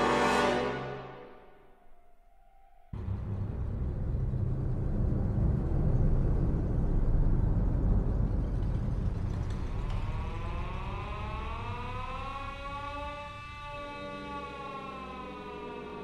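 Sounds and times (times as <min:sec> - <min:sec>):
low rough rumbling drone: 0:01.9 - 0:16.0.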